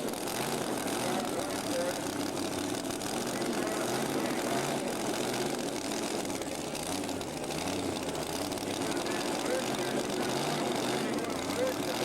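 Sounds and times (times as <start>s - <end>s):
constant background noise: 0.0s - 12.0s
tractor engine running: 0.0s - 12.0s.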